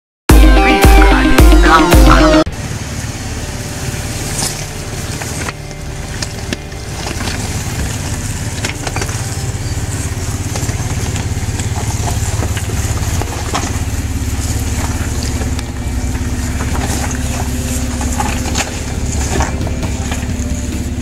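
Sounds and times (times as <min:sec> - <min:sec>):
engine running at low revs: 0:00.3 - 0:21.0
tyres crunching on loose stones: 0:02.5 - 0:21.0.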